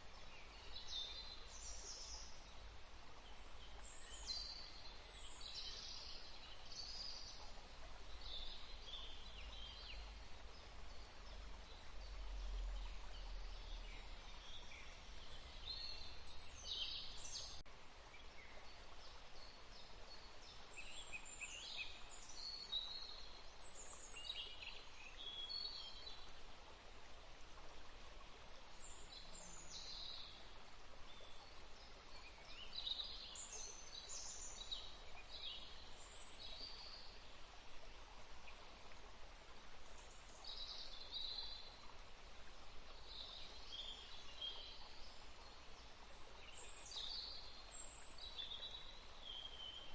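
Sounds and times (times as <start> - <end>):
faint outdoor hiss: 0.0 - 49.9
songbirds chirping: 0.0 - 49.9.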